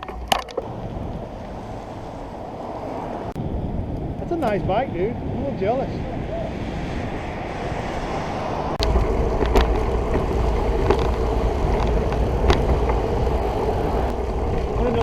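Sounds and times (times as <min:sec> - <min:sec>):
road and tyre noise: 0:00.0 - 0:15.0
wind buffeting microphone: 0:00.0 - 0:15.0.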